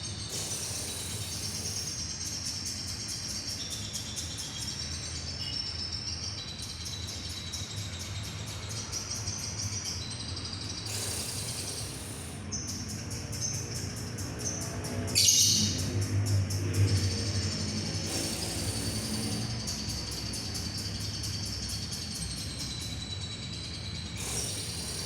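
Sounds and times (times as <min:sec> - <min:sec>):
lovebird chattering trill: 0:00.1 - 0:14.6, 0:16.6 - 0:25.0.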